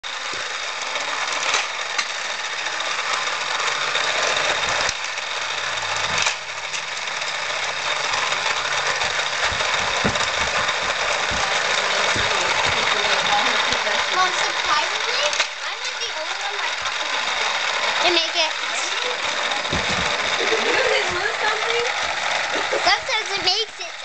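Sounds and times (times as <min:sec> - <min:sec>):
small motor whirring: 0:00.0 - 0:24.0.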